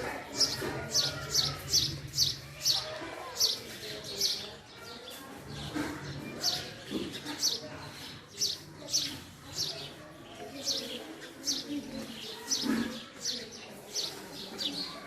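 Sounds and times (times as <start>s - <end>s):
sparrow chirping: 0.0s - 15.0s.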